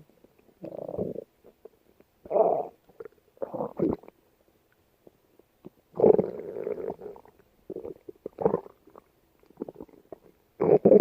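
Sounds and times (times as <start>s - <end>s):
stomach growling and gurgling: 0.6s - 4.2s, 5.6s - 11.0s.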